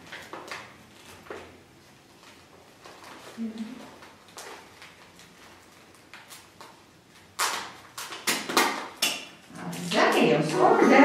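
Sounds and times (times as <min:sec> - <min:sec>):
wrapping paper crinkling: 0:00.0 - 0:09.0.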